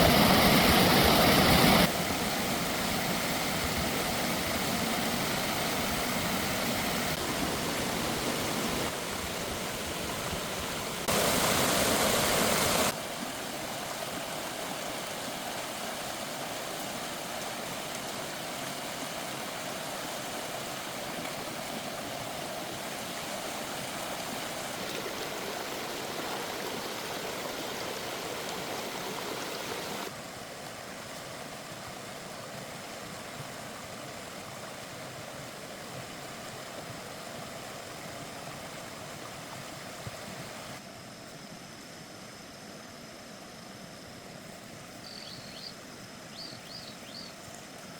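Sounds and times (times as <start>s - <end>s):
running water: 0.0s - 41.1s.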